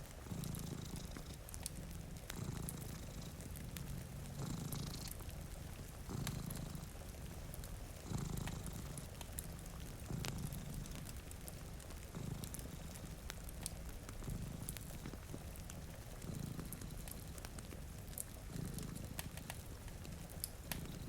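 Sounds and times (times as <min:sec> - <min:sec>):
cat purring: 0:00.0 - 0:21.0
wood fire crackling: 0:00.0 - 0:21.0.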